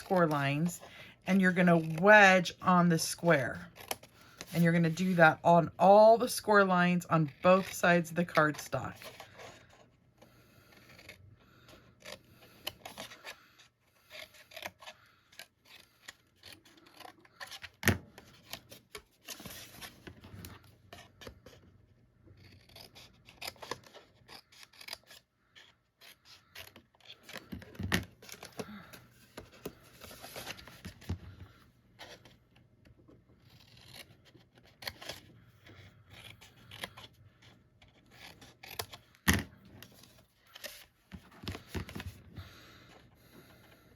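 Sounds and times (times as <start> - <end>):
card scraping and rustling: 7.2 - 43.9.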